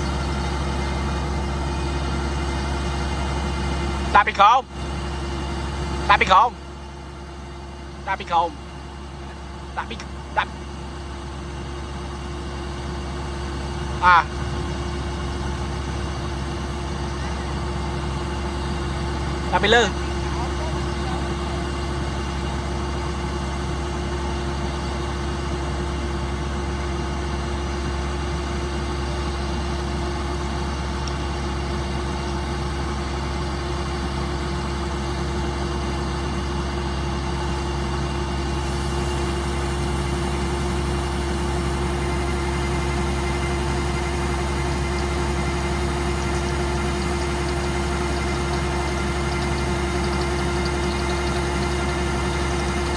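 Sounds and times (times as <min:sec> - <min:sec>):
combine harvester diesel engine running: 0:00.0 - 0:52.9.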